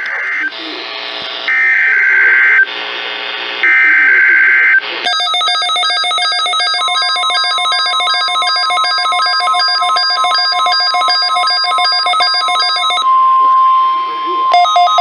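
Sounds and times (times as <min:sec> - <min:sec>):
steady alarm tone: 0:00.0 - 0:02.7, 0:03.6 - 0:15.0.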